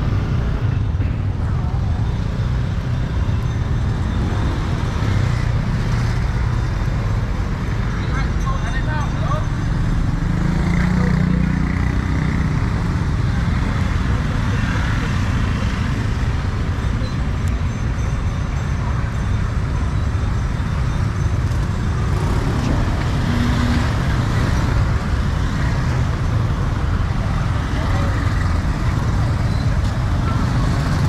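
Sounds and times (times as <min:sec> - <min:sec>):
motorbikes in street traffic: 0:00.0 - 0:31.0.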